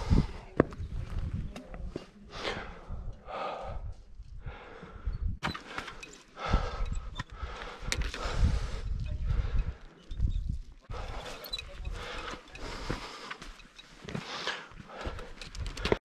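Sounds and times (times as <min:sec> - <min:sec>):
person breathing heavily: 0:00.0 - 0:00.6, 0:02.3 - 0:16.0.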